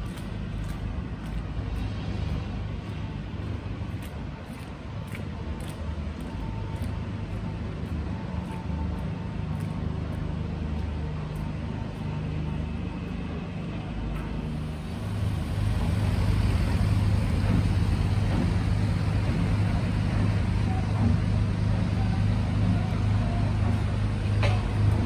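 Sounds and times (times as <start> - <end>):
diesel engines droning: 0.0 - 25.0.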